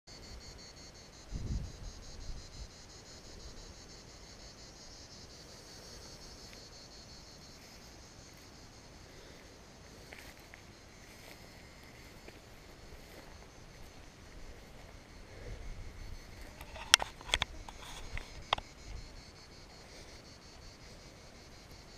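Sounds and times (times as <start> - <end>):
insects chirping: 0.1 - 21.9.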